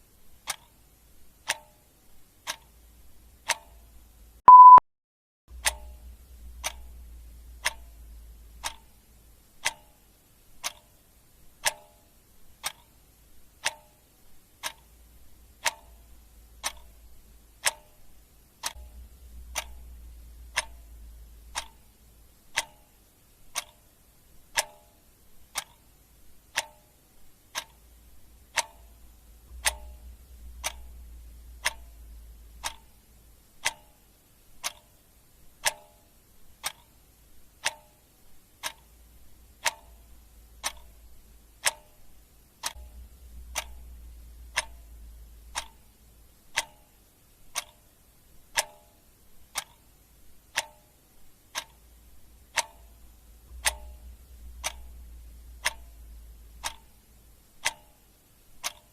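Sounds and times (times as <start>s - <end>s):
clock ticking: 0.2s - 4.8s, 5.5s - 58.9s.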